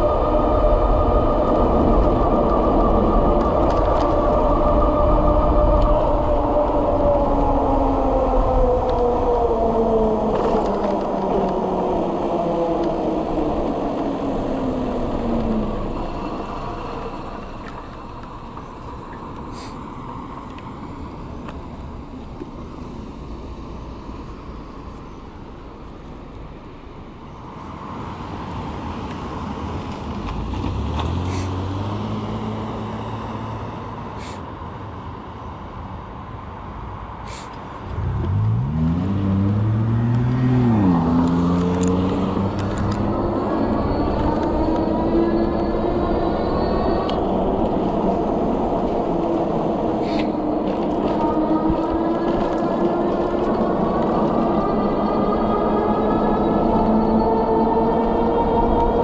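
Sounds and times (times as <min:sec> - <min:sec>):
low traffic hum: 0:00.0 - 0:59.0.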